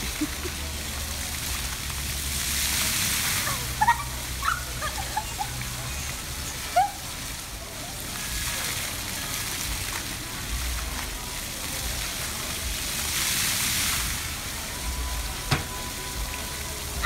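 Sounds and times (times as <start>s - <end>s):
fountain jets splashing on tiles: 0.0s - 17.0s.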